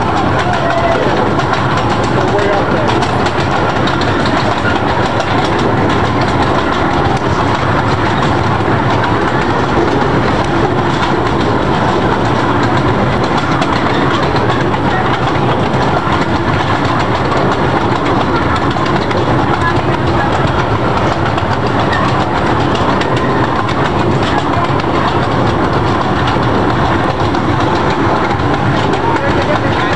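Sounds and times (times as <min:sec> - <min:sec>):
clicking over rail joints: 0:00.0 - 0:29.9
train wheels rumbling on rails: 0:00.0 - 0:29.9.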